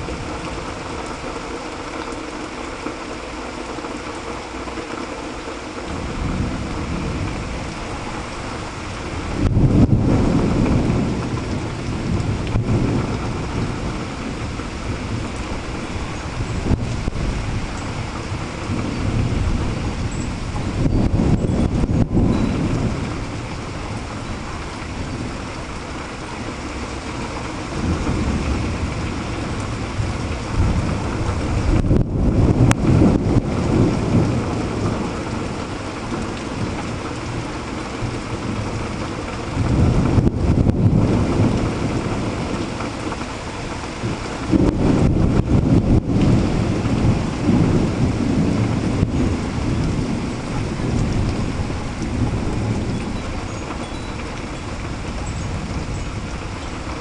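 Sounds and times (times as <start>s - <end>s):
heavy rain falling: 0.0s - 57.0s
thunder rumbling: 5.8s - 57.0s.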